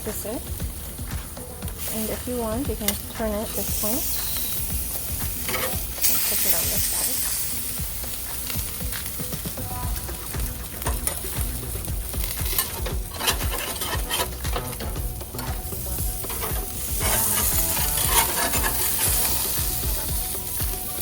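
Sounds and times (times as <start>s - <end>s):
fat crackling and popping: 0.0s - 21.0s
meat sizzling on a grill: 0.0s - 21.0s.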